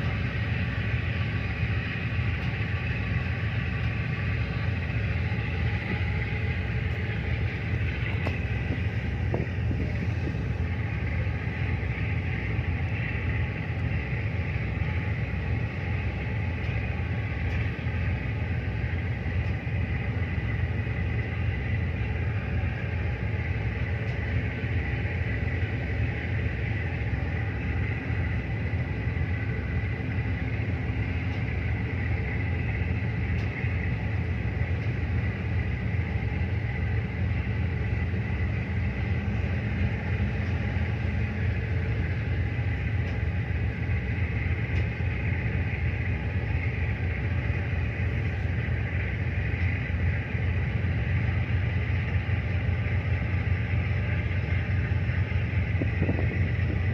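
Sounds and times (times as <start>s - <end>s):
diesel engine rumbling with whine: 0.0s - 56.9s.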